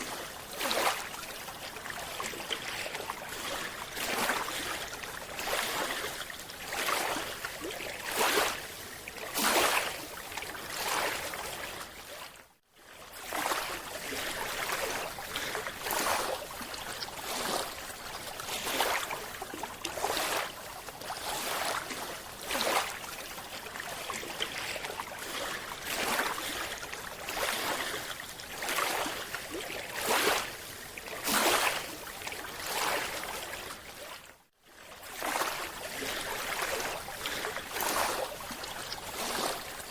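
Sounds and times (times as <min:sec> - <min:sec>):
water rushing and sloshing: 0:00.0 - 0:39.9.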